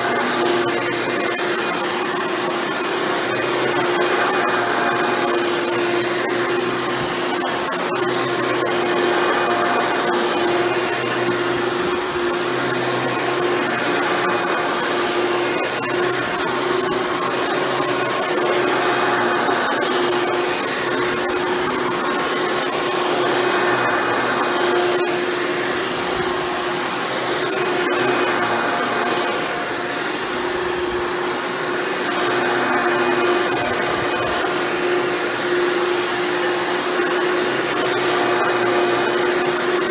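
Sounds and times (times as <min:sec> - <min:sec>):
upright vacuum cleaner on carpet: 0:00.0 - 0:39.9.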